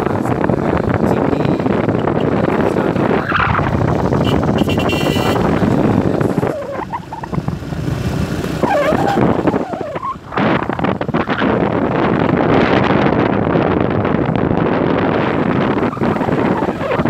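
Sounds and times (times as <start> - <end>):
moving vehicle running noise: 0.0 - 17.0
wind rushing over microphone: 0.0 - 17.0.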